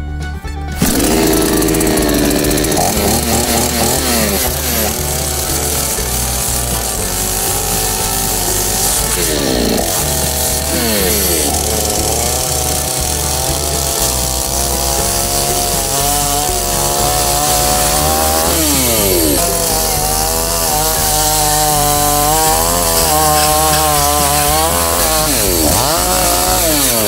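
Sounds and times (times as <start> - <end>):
chainsaw cutting branches: 0.8 - 27.0.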